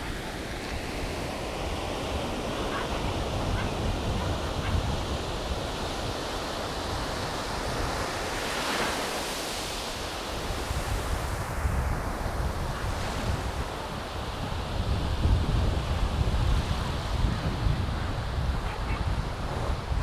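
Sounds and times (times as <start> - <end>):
wind buffeting microphone: 0.0 - 8.6, 10.0 - 20.0
surf washing on a beach: 0.0 - 20.0.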